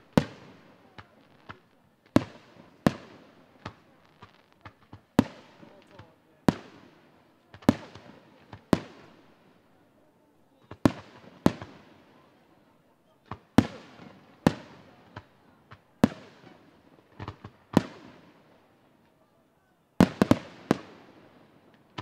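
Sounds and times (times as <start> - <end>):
small firework pops: 0.0 - 9.2, 10.6 - 12.0, 13.2 - 19.2, 20.0 - 22.0.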